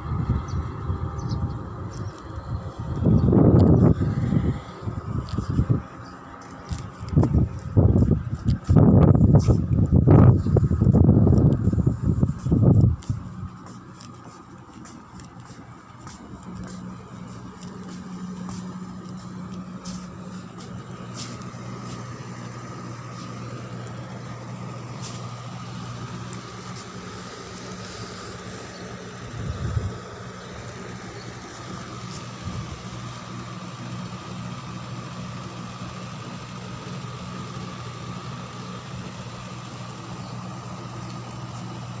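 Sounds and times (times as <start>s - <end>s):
high whine: 0.0s - 34.1s
ship machinery humming: 0.8s - 42.0s.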